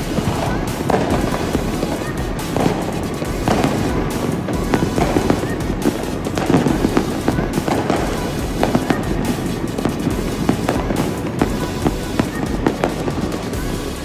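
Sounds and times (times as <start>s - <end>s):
firecrackers crackling: 0.0s - 14.0s
fireworks bangs and pops: 0.0s - 14.0s.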